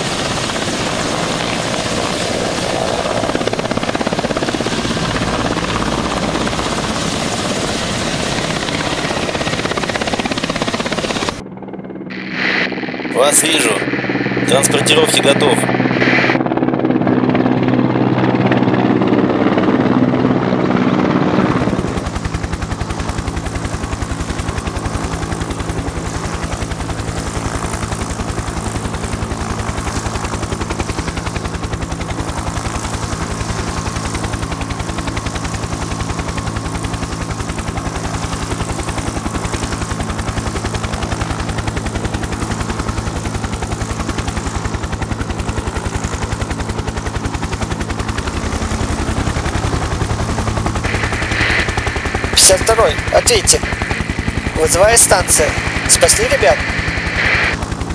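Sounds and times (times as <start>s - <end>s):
helicopter engine hum: 0.0s - 57.9s
helicopter rotor chop: 0.0s - 57.9s.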